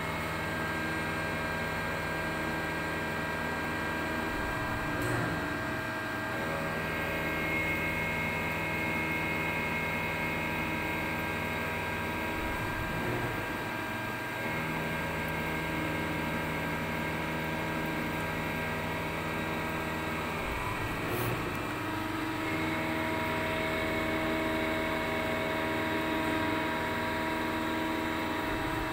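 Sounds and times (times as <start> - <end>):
lathe hum with drive whine: 0.0 - 28.9.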